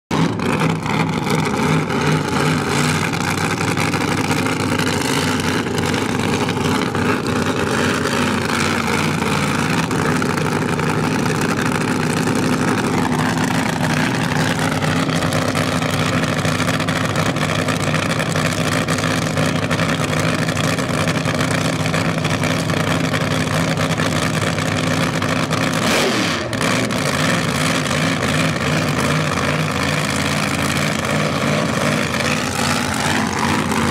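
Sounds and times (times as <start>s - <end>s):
drag car engine idling: 0.1s - 25.8s, 26.5s - 33.9s.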